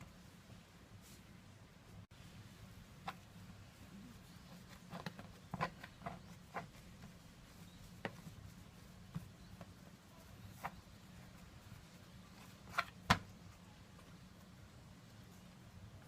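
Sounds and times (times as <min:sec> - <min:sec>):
faint low steady hum: 0:00.0 - 0:16.0.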